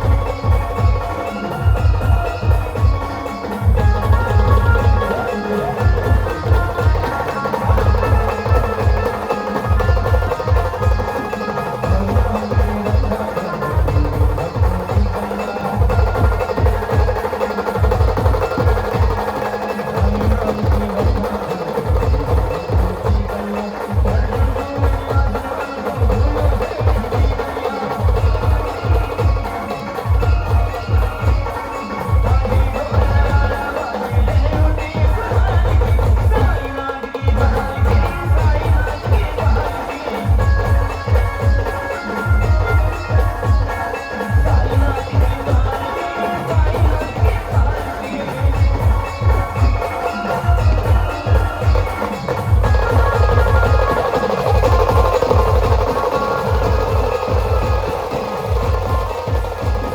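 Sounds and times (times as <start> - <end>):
heavy drum beats: 0.0 - 59.9.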